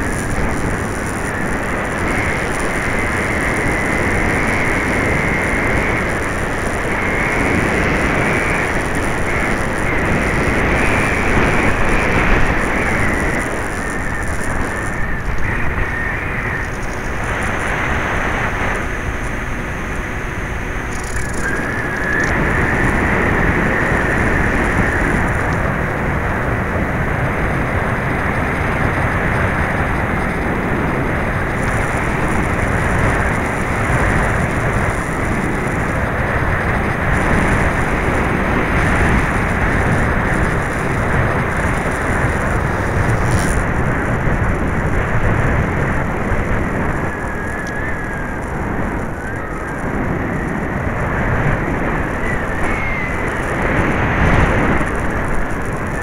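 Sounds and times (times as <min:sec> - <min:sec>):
gusting wind: 0:00.0 - 0:56.0
model plane propeller noise: 0:00.0 - 0:56.0.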